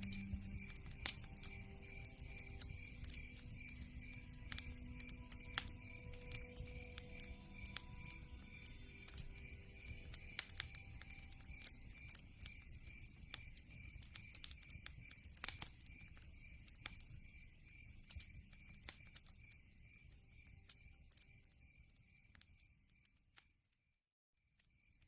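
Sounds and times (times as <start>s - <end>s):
low rumble of burning: 0.0s - 23.4s
wood fire crackling: 0.0s - 23.7s.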